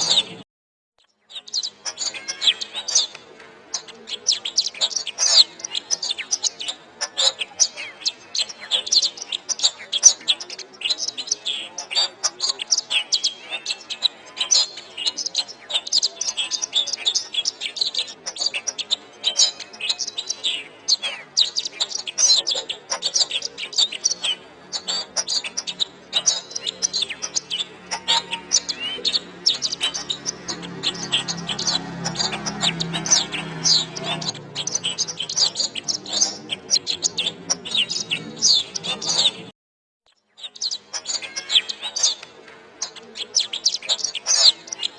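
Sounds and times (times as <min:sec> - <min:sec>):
canary singing chirps and trills: 0:00.0 - 0:00.4, 0:01.0 - 0:39.5, 0:40.1 - 0:44.9.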